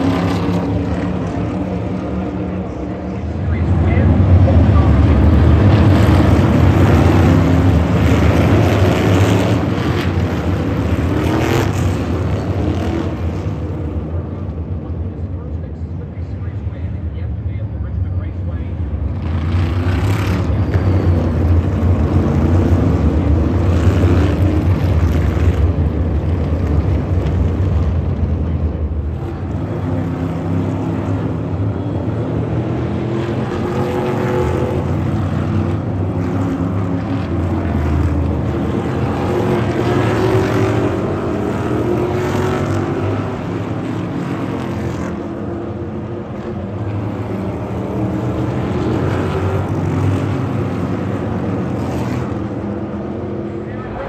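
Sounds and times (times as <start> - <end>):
stock car engines droning by: 0.0 - 54.0.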